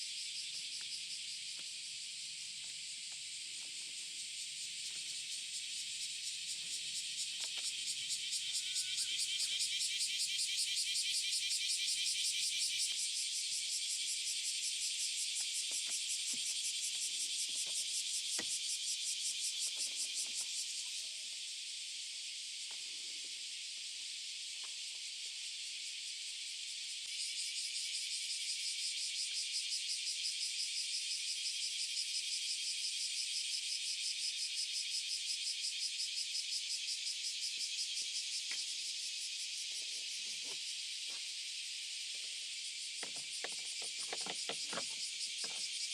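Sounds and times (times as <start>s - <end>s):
insect trill: 0.0s - 45.9s.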